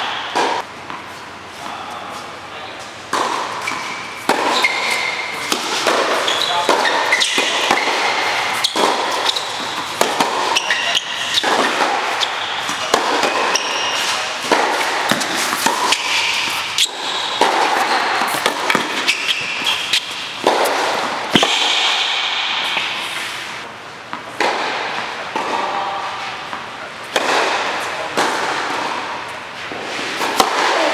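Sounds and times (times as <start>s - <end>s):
ball bouncing on hard court: 0.0s - 1.1s, 3.1s - 23.1s, 24.1s - 30.9s
racquets striking tennis ball: 0.0s - 1.7s, 2.8s - 30.9s.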